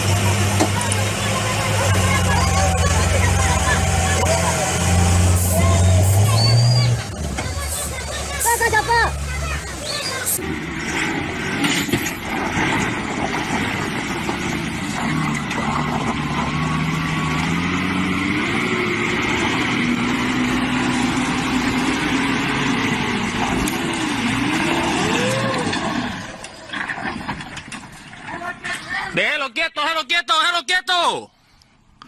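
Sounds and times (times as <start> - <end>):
truck engine straining and revving: 0.0 - 28.8.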